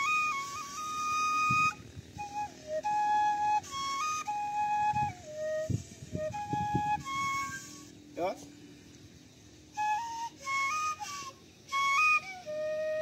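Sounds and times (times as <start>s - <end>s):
bamboo flute melody: 0.0s - 8.5s, 9.5s - 13.0s.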